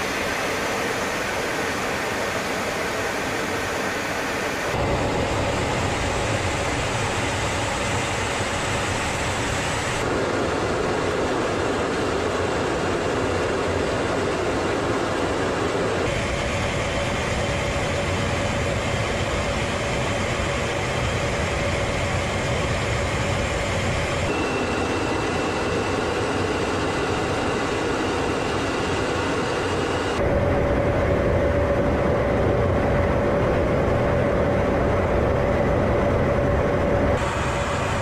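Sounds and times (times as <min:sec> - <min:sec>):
jet engines and airflow rushing: 0:00.0 - 0:38.0.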